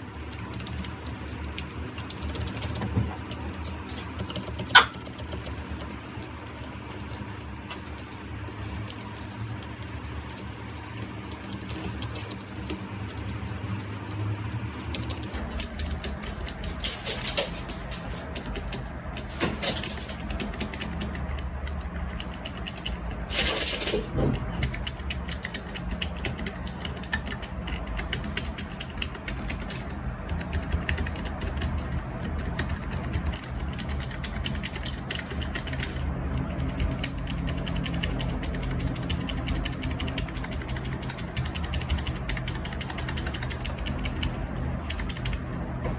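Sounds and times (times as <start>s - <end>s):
keyboard typing clicks: 0.5s - 45.4s.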